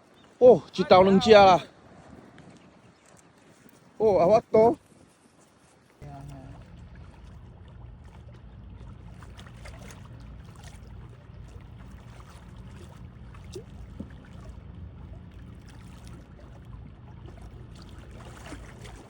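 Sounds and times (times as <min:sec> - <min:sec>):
water lapping: 0:00.0 - 0:19.0
wind rumble on microphone: 0:00.9 - 0:05.2, 0:06.0 - 0:19.0.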